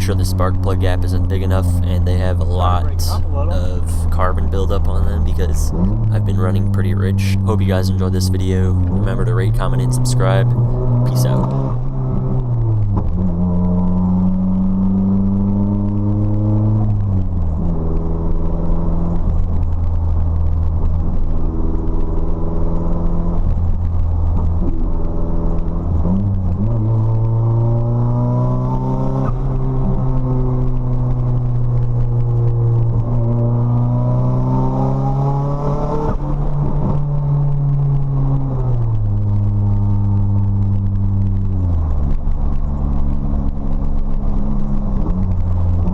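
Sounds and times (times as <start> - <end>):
car engine revving while driving: 0.0 - 45.9.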